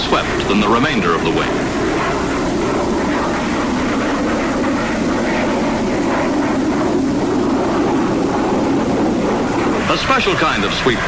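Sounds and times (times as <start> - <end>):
jet aircraft engine noise: 0.0 - 11.0.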